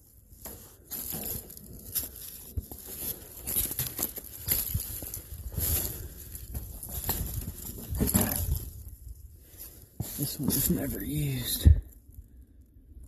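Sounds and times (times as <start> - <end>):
rustling: 0.0 - 12.2
footsteps crunching on gravel: 0.5 - 11.6.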